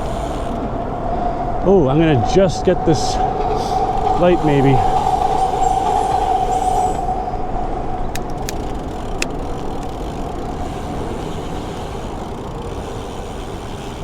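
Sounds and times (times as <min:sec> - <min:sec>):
bicycle riding hum: 0:00.0 - 0:14.0
road traffic: 0:00.0 - 0:14.0.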